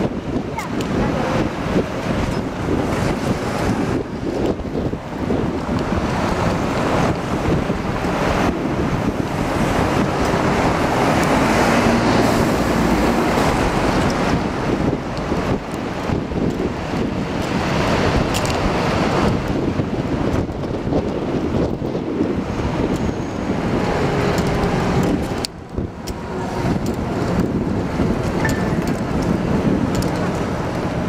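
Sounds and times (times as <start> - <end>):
city traffic: 0.0 - 31.0
wind buffeting microphone: 0.0 - 31.0.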